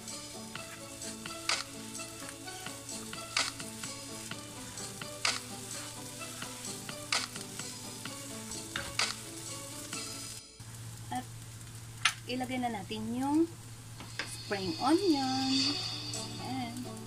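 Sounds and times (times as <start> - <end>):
rice sizzling in a wok: 0.0 - 17.0.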